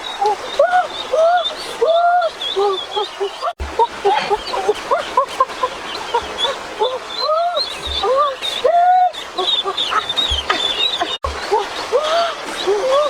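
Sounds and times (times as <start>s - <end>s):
geese honking: 0.0s - 13.0s
high chirping calls: 0.0s - 13.0s.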